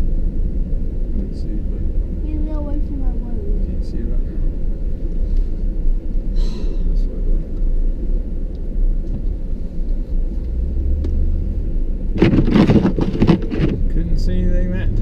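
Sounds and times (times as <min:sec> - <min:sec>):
truck engine and tyres rumbling: 0:00.0 - 0:15.0.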